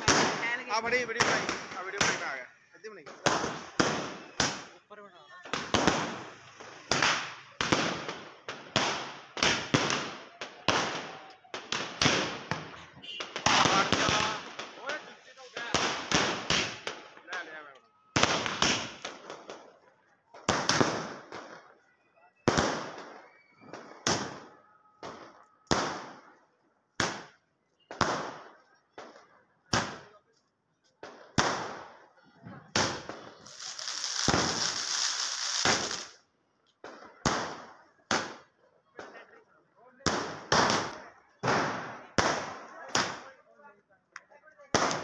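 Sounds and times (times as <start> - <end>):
fireworks bangs with hiss: 0.0 - 2.4, 3.0 - 4.8, 5.4 - 17.5, 18.2 - 19.8, 20.4 - 21.7, 22.4 - 26.4, 27.0 - 30.1, 31.0 - 36.2, 36.8 - 39.2, 40.0 - 43.3, 44.7 - 45.0.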